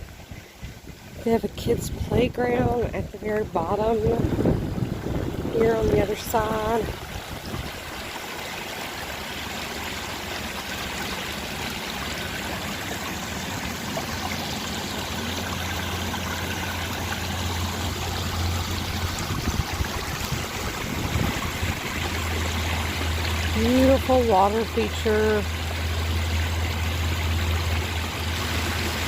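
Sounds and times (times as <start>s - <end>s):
water splashing in a fountain: 0.0s - 29.0s.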